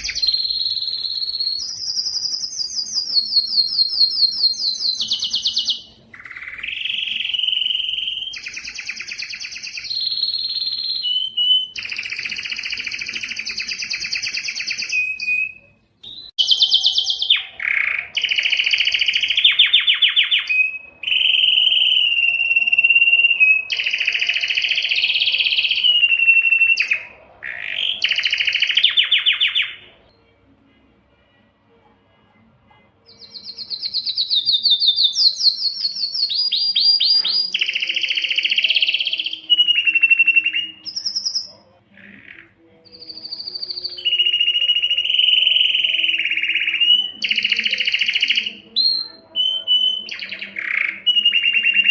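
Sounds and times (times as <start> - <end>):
canary singing trills: 0.0 - 30.4, 32.7 - 51.9.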